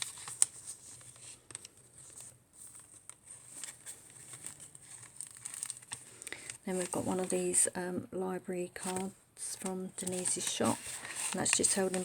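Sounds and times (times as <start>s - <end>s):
paper pages rustling: 0.0s - 7.7s, 8.8s - 12.0s.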